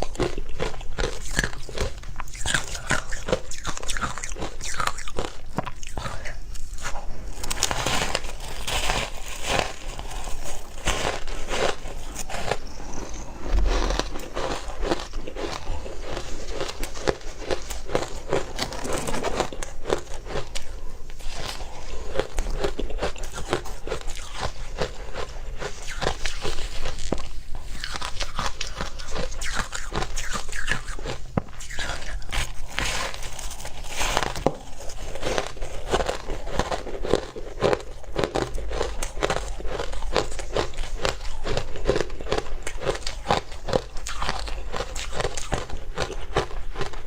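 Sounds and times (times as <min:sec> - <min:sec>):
crunchy ice chewing: 0:00.0 - 0:47.0.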